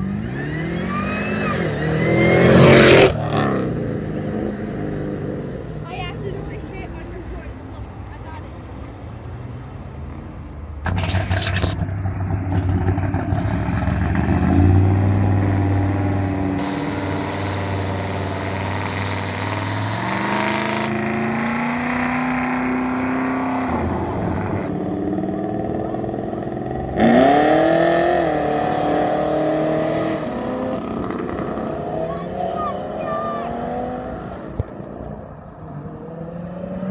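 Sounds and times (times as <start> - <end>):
car engine accelerating: 0.0 - 6.8, 7.8 - 36.9
vehicle passing close: 0.0 - 36.9.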